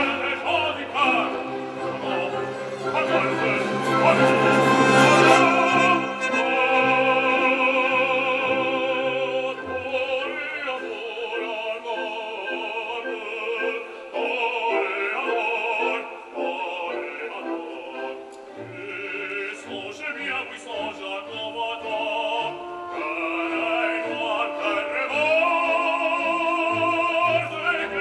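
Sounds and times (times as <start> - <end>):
baritone singing operatically: 0.0 - 28.0.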